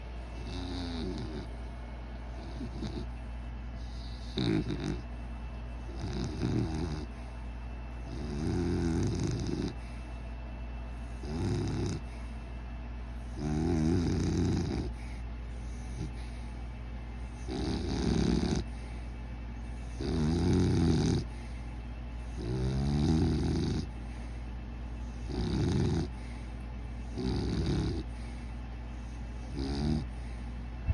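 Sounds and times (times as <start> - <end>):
dog snoring: 0.0 - 30.9.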